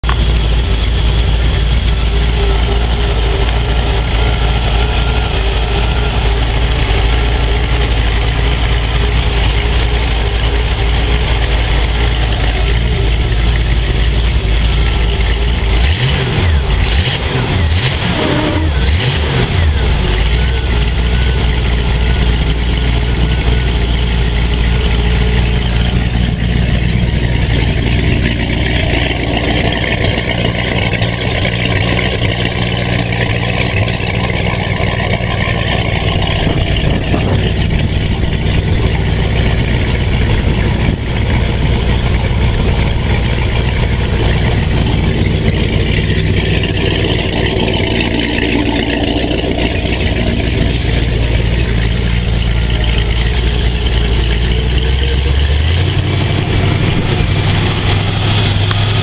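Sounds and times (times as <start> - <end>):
boat engine idling and revving: 0.0 - 59.0.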